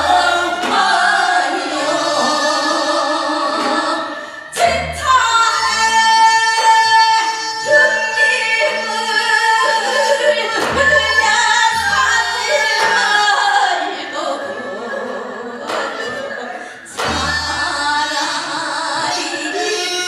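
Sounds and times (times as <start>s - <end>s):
folk singing voices: 0.0s - 20.0s.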